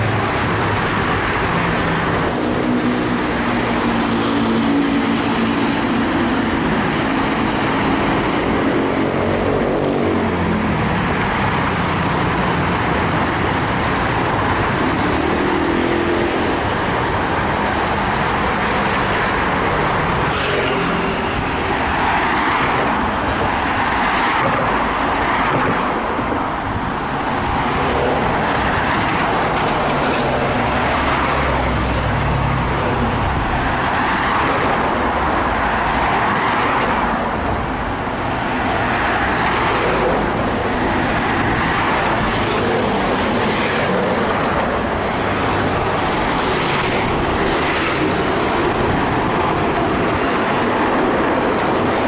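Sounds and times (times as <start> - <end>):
passing traffic noise: 0.0 - 52.0.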